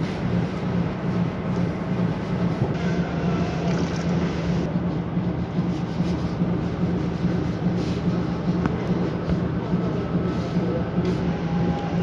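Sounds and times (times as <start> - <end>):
machinery humming and rumbling: 0.0 - 12.0.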